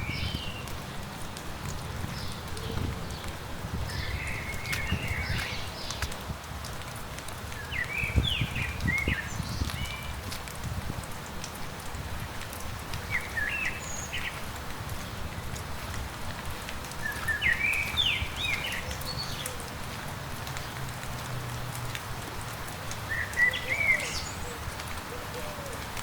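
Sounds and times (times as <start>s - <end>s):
light rain pattering: 0.0s - 26.0s
water drips ticking: 0.3s - 26.0s.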